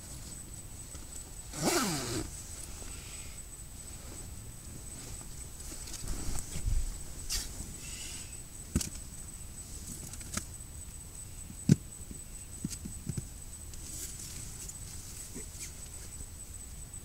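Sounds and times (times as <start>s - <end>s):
faint rustling: 0.0s - 10.6s, 12.7s - 16.4s
steady hiss: 0.0s - 17.0s.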